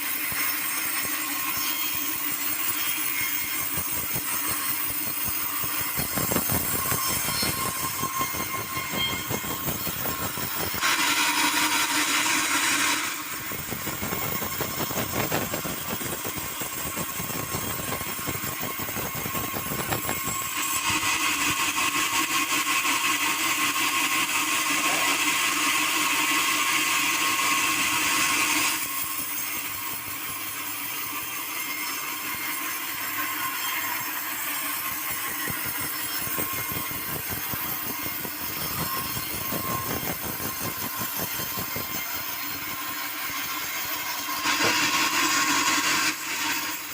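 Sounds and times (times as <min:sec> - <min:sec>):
sawmill saw running: 0:00.0 - 0:46.9.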